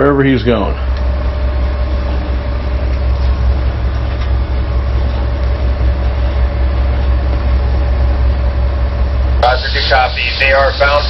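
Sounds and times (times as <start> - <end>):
diesel machinery droning: 0.0 - 11.0
faint steady hum: 0.0 - 11.0.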